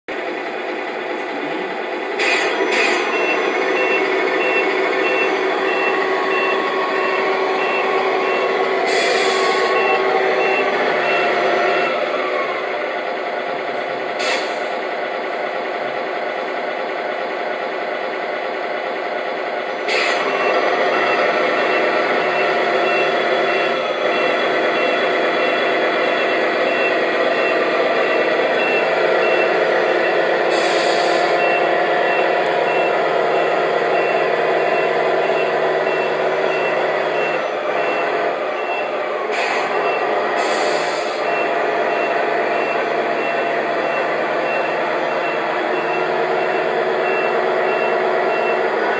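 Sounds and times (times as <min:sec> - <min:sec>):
model truck engine sound: 0:00.1 - 0:48.9
reversing beeper: 0:02.2 - 0:12.7, 0:19.9 - 0:48.9.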